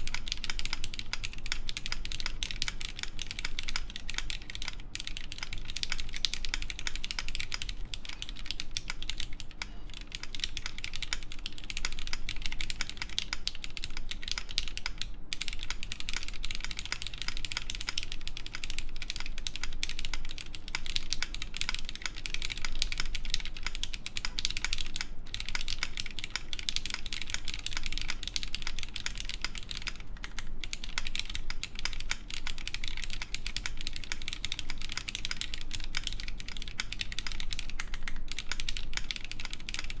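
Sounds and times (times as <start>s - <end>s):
fast typing on mechanical keyboard: 0.0s - 40.0s.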